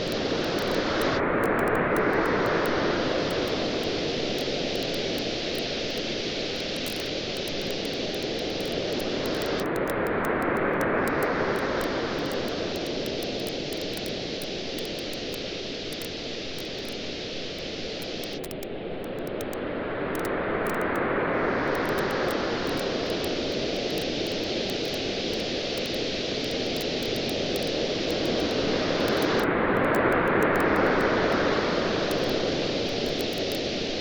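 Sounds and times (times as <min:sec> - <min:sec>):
campfire crackling and popping: 0:00.0 - 0:17.1, 0:18.0 - 0:19.6, 0:21.7 - 0:31.1, 0:32.1 - 0:33.6
waves washing onto beach: 0:00.0 - 0:34.0.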